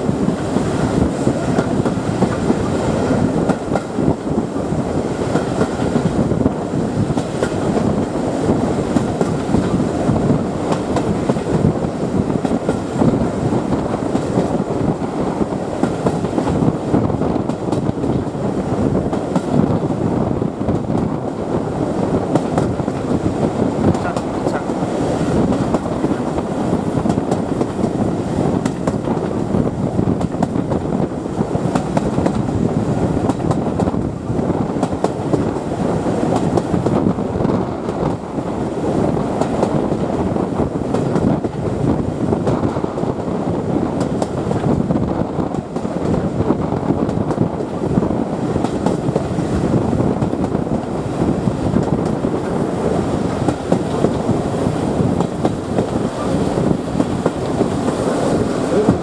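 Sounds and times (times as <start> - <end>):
train wheels rumbling on rail: 0.0 - 59.0
wind: 0.0 - 59.0.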